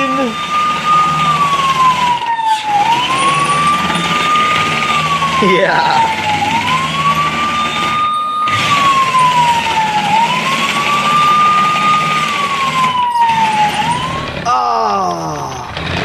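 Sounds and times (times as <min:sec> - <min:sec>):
toy siren wailing: 0:00.0 - 0:16.0.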